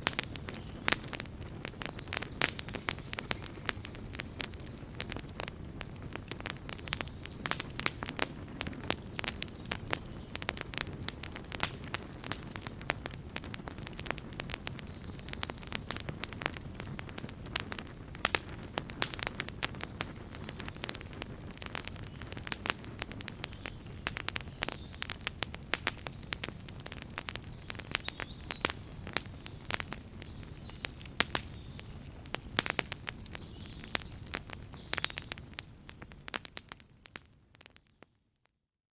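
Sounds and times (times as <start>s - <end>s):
low rush of flames: 0.0s - 37.0s
burning wood crackling and popping: 0.0s - 38.5s.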